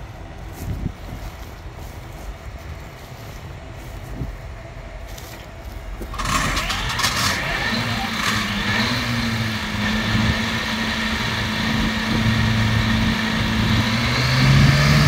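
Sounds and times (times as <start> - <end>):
mower engine rumble: 0.0 - 15.0.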